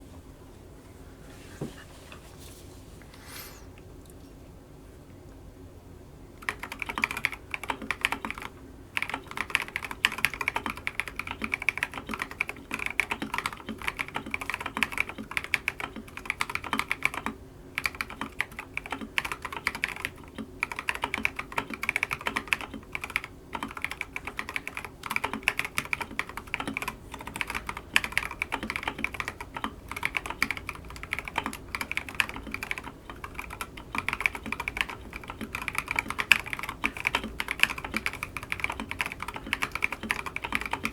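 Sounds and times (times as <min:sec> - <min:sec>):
mechanical keyboard typing: 0:06.4 - 0:40.9.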